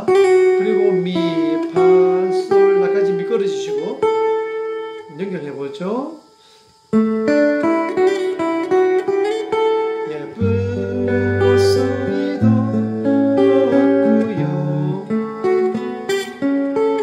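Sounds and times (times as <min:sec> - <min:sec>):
fingerstyle acoustic guitar: 0:00.0 - 0:05.2, 0:06.5 - 0:17.0.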